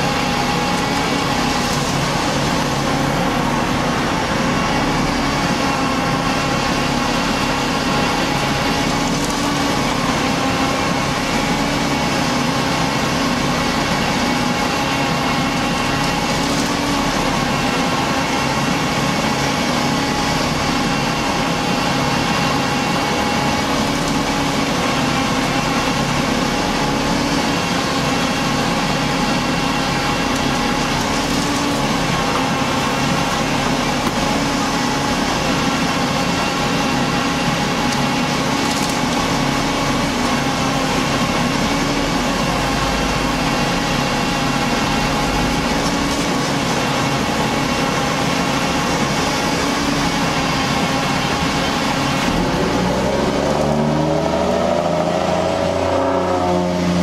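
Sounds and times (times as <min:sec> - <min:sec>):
concrete mixer truck engine hum: 0:00.0 - 0:57.0.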